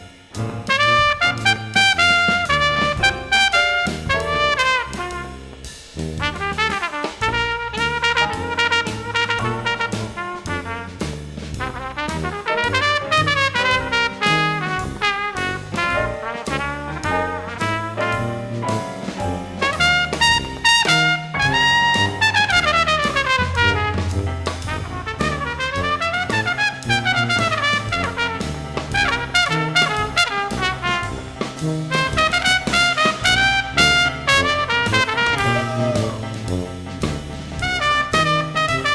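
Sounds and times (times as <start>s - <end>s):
keyboards: 0.0s - 5.1s, 12.7s - 38.9s
baritone saxophone: 0.0s - 5.6s, 6.2s - 38.9s
drum kit: 0.0s - 38.9s
trumpet: 0.0s - 38.9s
tuba bass line: 0.0s - 38.9s.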